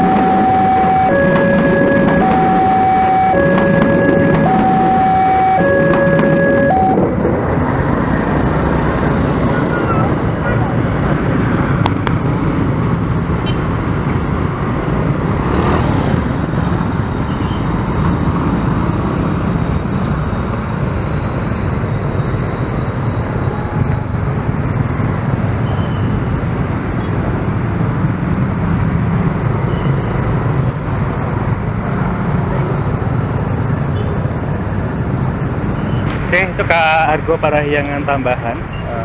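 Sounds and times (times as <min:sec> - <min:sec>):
motorcycles running: 0:00.0 - 0:39.0
road traffic: 0:00.0 - 0:39.0.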